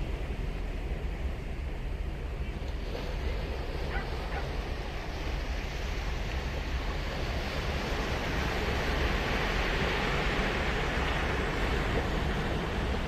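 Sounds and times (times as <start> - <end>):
surf breaking and washing ashore: 0.0 - 13.0
wind rumble on microphone: 0.0 - 13.0.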